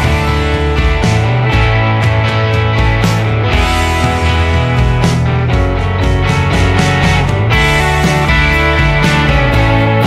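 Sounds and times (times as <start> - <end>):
instrumental rock music with guitar: 0.0 - 10.0.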